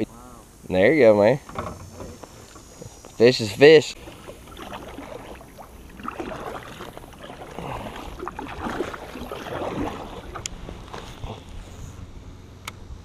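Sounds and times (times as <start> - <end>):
low steady rumble: 0.0 - 13.0
kayak paddle splashing: 1.4 - 12.0.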